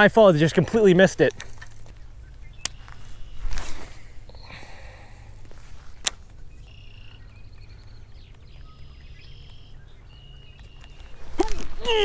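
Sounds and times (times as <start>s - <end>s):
low outdoor hum: 0.0s - 12.0s
birds whistling: 1.6s - 12.0s.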